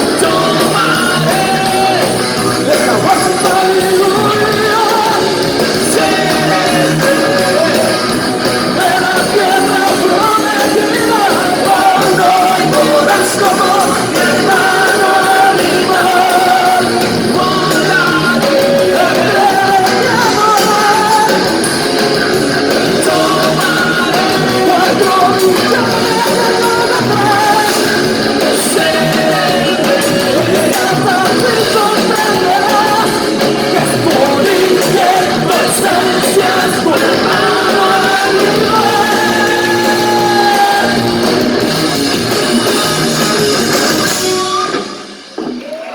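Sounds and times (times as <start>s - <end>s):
person singing: 0.0s - 41.4s, 42.1s - 45.9s
rock band playing: 0.0s - 45.9s.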